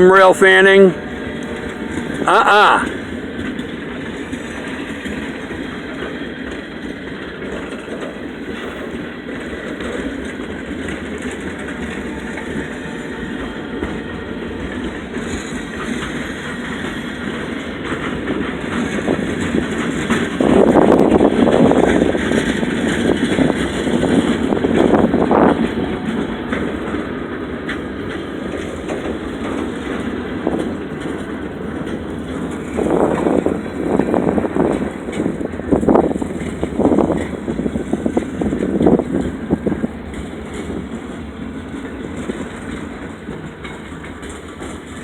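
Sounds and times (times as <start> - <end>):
freight train wheels rumbling: 0.0 - 45.0
wind buffeting microphone: 0.9 - 2.3, 2.9 - 45.0.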